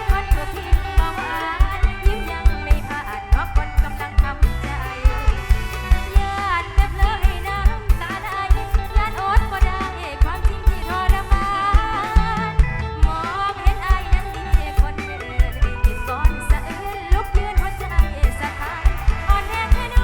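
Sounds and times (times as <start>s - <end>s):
ornamented melody line: 0.0s - 20.0s.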